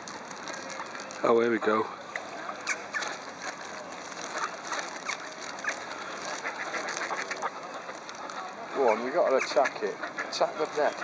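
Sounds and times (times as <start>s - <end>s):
steady background hiss: 0.0s - 11.0s
short bird calls: 2.1s - 11.0s.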